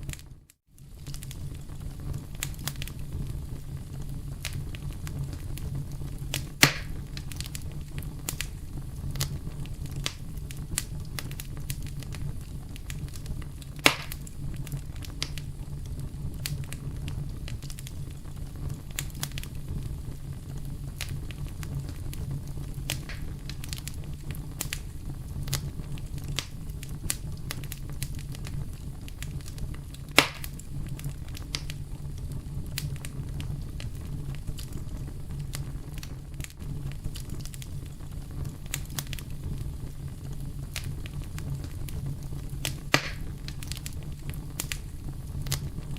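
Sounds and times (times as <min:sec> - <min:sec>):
campfire crackling: 0:00.0 - 0:45.9
sharp fire pops: 0:00.0 - 0:45.9.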